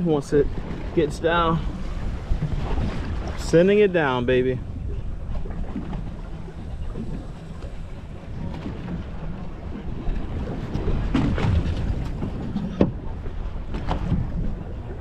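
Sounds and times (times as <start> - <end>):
water washing against hull: 0.0 - 15.0
wind buffeting microphone: 0.0 - 15.0.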